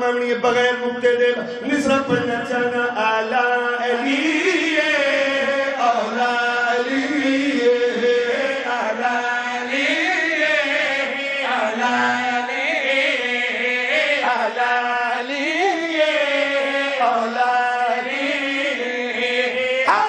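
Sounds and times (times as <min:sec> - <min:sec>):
men chanting into microphones: 0:00.0 - 0:20.0.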